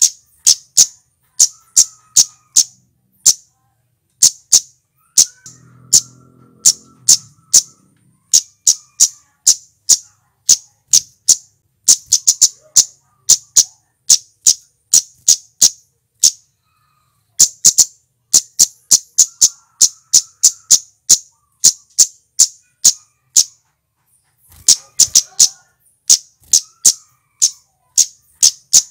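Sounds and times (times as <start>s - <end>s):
bird chip calls: 0.0s - 3.5s, 4.2s - 23.7s, 24.4s - 28.9s.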